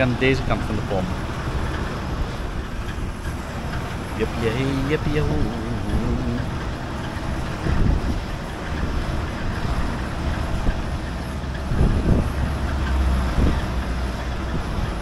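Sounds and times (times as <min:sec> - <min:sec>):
fuel pump hum: 0:00.0 - 0:15.0.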